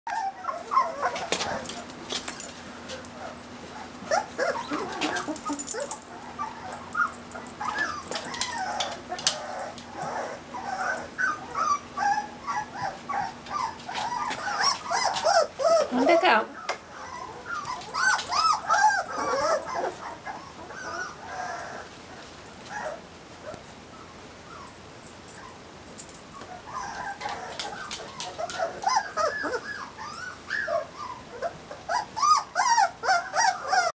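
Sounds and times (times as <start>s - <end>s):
dogs whining and yipping: 0.1s - 33.9s
fan hum: 0.1s - 33.9s.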